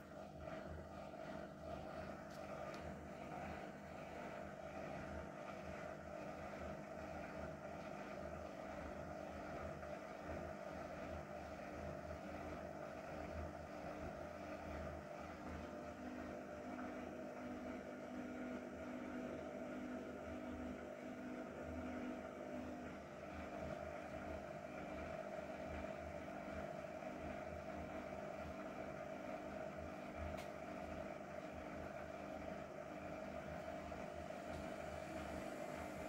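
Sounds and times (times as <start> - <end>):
washing machine spinning: 0.0 - 36.0.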